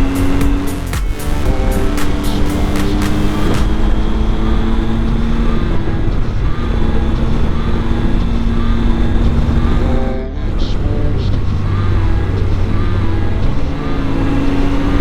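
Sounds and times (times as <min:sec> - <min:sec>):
motorcycle engine running: 0:00.0 - 0:15.0
wind and road rumble: 0:00.0 - 0:15.0.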